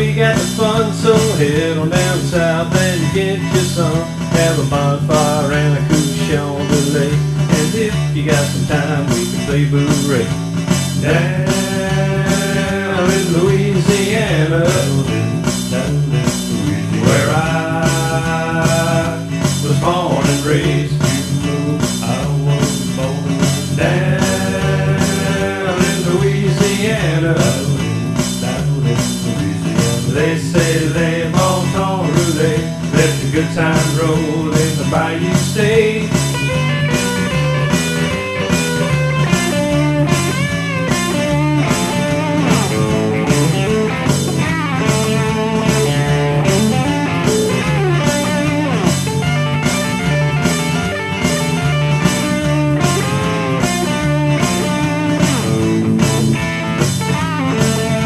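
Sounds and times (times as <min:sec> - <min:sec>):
bluesy rock song with guitar: 0:00.0 - 0:58.0.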